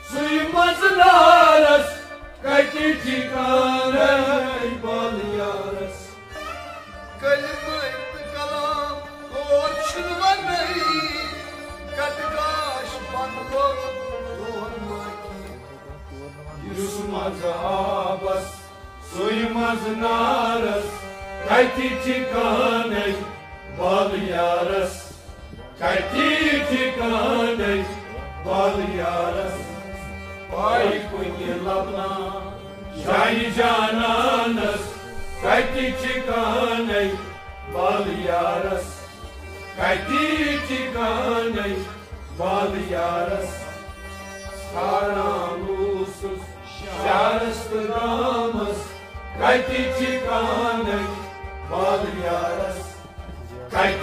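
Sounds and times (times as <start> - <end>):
harmonium: 0.0 - 54.0
stringed instruments: 0.0 - 54.0
person singing devotional song: 8.2 - 54.0.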